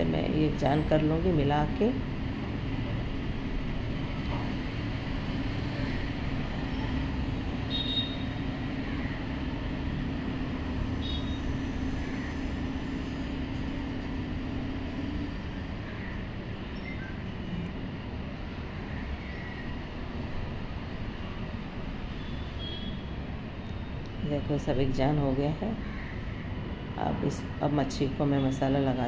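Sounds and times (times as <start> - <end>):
low hum and rumble: 0.0 - 29.0.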